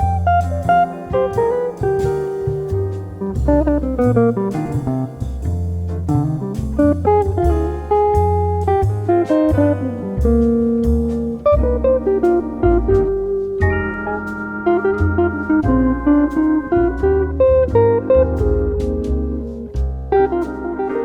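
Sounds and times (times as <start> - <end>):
bass line: 0.0 - 21.0
drum kit: 0.0 - 21.0
jazz guitar: 0.0 - 21.0.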